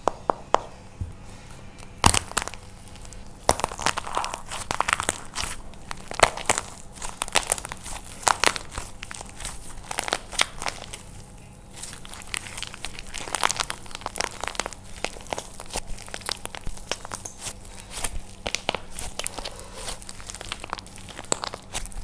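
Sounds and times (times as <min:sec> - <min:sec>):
dry clay crunching by hand: 0:00.0 - 0:22.0.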